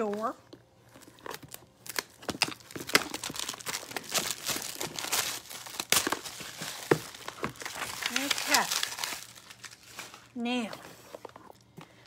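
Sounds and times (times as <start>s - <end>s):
shrink wrap crinkling: 0.0s - 12.0s.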